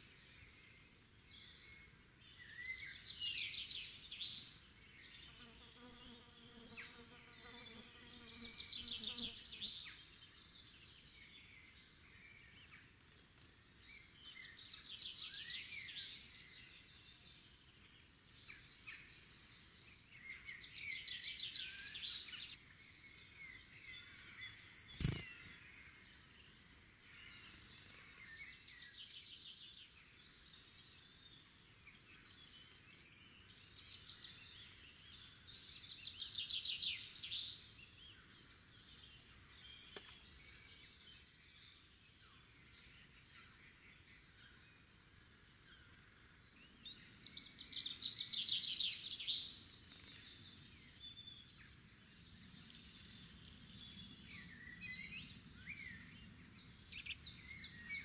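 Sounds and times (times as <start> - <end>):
faint steady outdoor hiss: 0.0 - 58.0
rapid trilled birdsong: 0.0 - 58.0
songbirds singing: 0.0 - 58.0.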